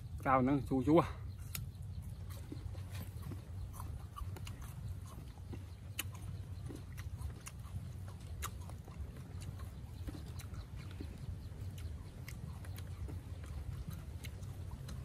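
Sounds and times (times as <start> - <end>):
chewing crisp food: 0.0 - 15.0
steady low rumble: 0.0 - 15.0.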